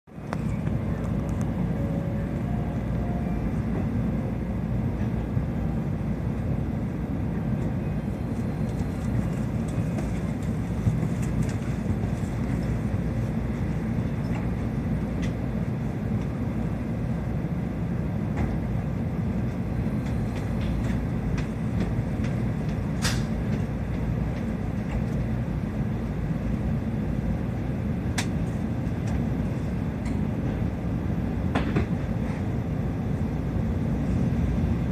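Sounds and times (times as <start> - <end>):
train low rumble inside carriage: 0.0 - 34.9.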